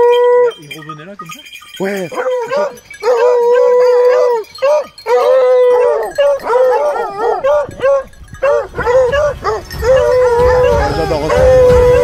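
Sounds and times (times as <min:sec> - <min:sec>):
dogs yelping: 0:00.0 - 0:12.0
hounds baying and howling: 0:00.0 - 0:12.0.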